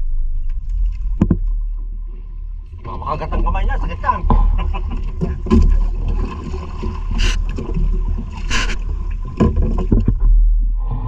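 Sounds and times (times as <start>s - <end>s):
sea water against boat hull: 0.0s - 11.0s
steady low rumble: 0.0s - 11.0s.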